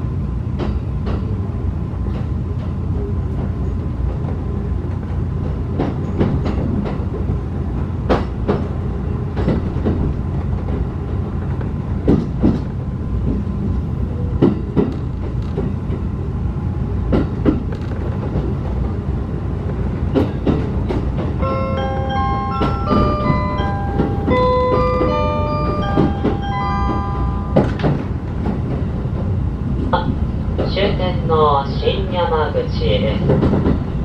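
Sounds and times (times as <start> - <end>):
train coach rumble: 0.0 - 34.0.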